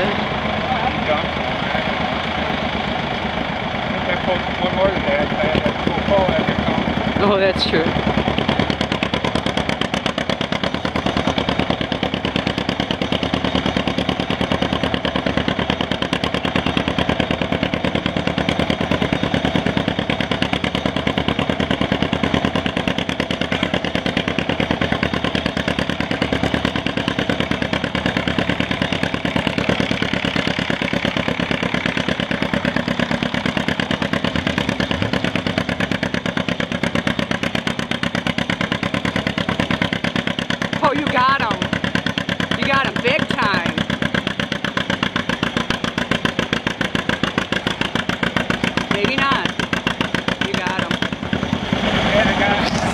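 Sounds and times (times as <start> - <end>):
two-cylinder tractor engine running: 0.0 - 52.9.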